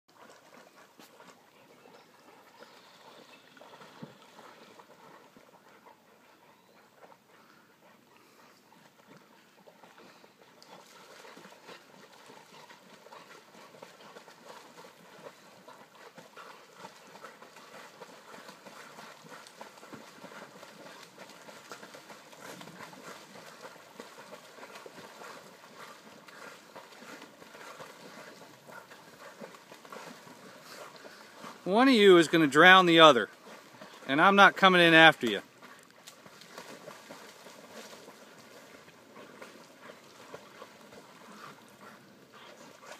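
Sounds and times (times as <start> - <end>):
puppies splashing in water: 0.1 - 42.9.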